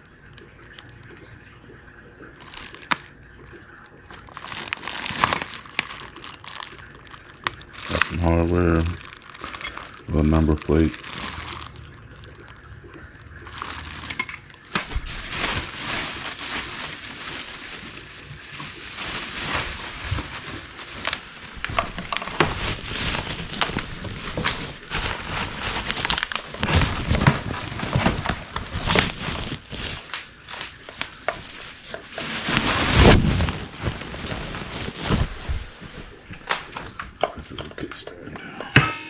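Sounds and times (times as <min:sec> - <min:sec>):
packaging rustling and crinkling: 0:02.2 - 0:03.2, 0:04.1 - 0:12.7, 0:13.5 - 0:37.6.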